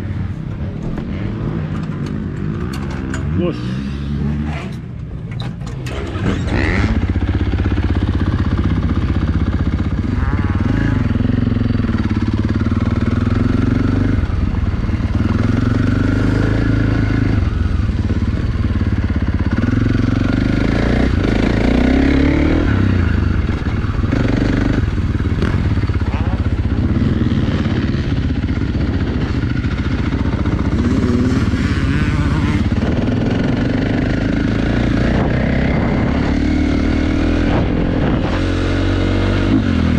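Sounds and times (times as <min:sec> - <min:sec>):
motocross engine revving: 0:00.0 - 0:05.0, 0:05.8 - 0:39.9.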